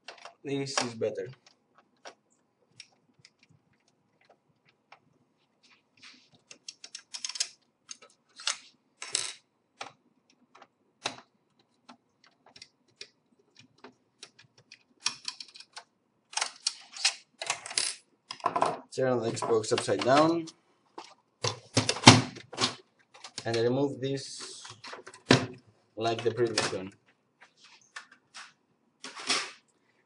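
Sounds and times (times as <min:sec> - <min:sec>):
plastic parts being handled: 0:00.0 - 0:29.7.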